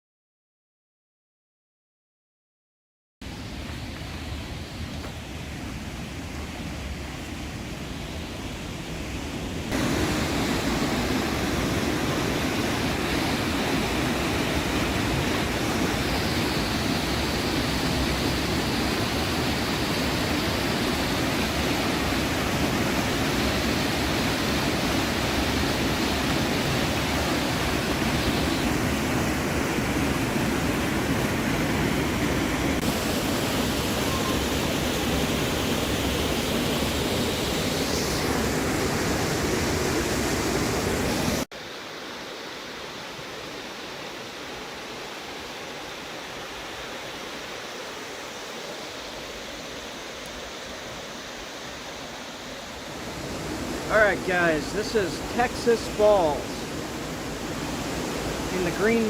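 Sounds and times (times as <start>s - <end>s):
waterfall rushing: 3.2s - 59.0s.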